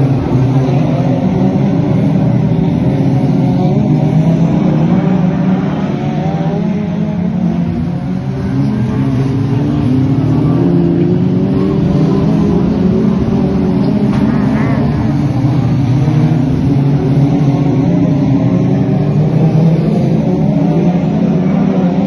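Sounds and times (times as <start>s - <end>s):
race car engine droning: 0.0s - 22.0s.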